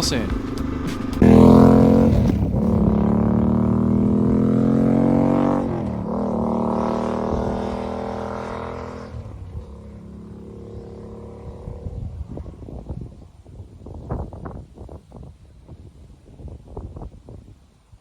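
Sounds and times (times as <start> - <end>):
motorcycle engine running: 0.0 - 17.3.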